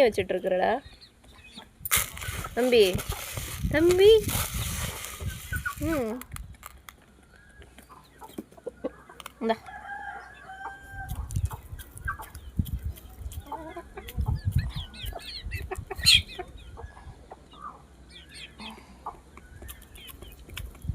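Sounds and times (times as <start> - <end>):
chickens clucking: 0.1 - 20.9.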